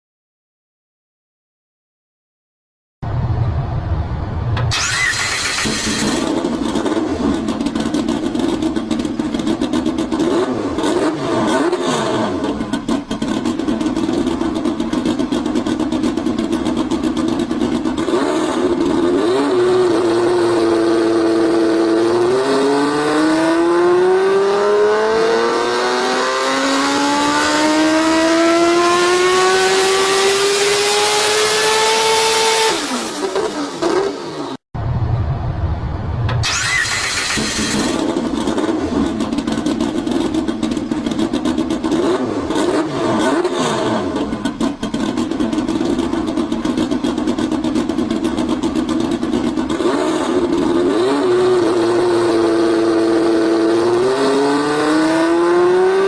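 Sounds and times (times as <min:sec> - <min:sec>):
turbocharged car engine revving: 0:04.6 - 0:34.6, 0:36.4 - 0:56.0.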